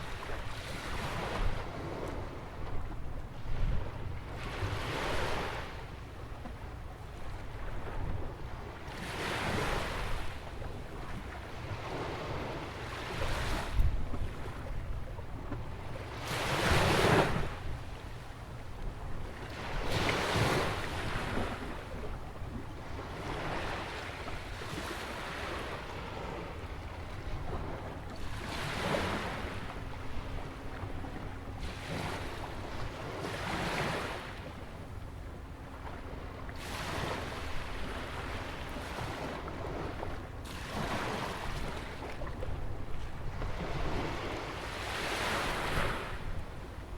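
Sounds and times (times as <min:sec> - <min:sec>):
waves breaking on a beach: 0:00.0 - 0:05.9, 0:07.2 - 0:18.2, 0:18.8 - 0:46.9
low wind rumble on microphone: 0:00.0 - 0:46.9.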